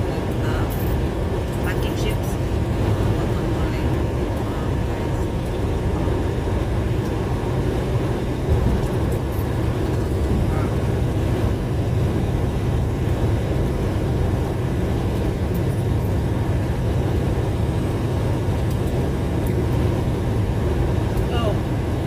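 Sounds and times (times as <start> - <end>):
truck engine rumble: 0.0 - 22.0.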